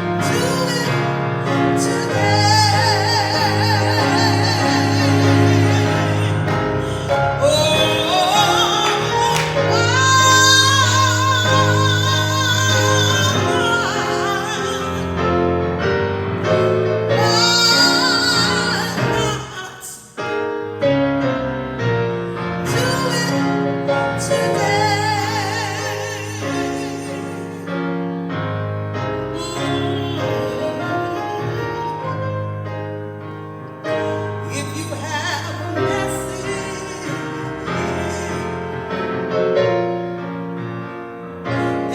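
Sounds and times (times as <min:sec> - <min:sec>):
person singing with vibrato: 0:00.0 - 0:20.5, 0:22.6 - 0:27.8, 0:29.3 - 0:33.1, 0:33.8 - 0:39.1
keyboard accompaniment: 0:00.0 - 0:41.9.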